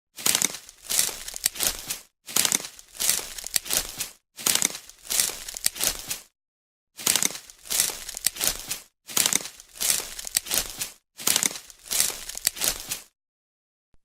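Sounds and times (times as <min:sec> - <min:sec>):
leaves rustling and crackling: 0:00.2 - 0:06.3, 0:07.0 - 0:13.1.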